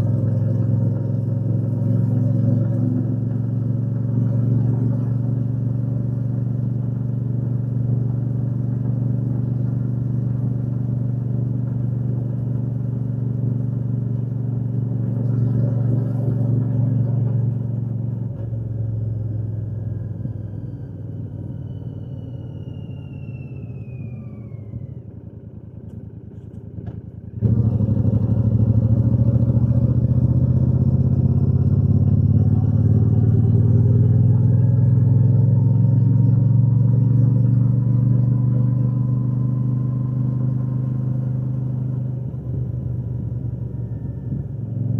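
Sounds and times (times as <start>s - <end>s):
motorcycle engine and exhaust running: 0.0s - 44.9s.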